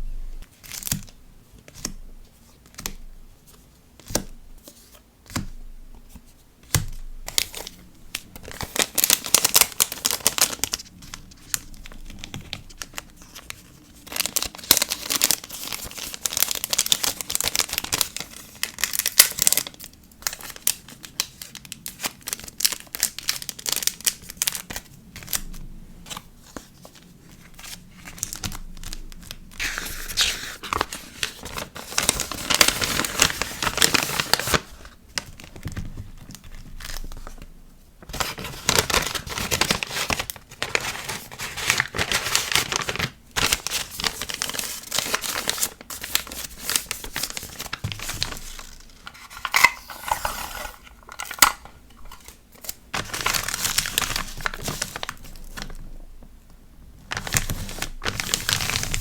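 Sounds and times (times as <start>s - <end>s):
plastic and paper crinkling: 1.7s - 56.1s, 57.0s - 59.0s.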